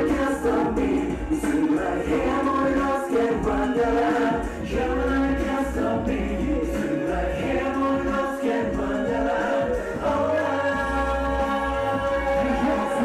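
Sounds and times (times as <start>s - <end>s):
male vocal group singing: 0.0s - 13.0s.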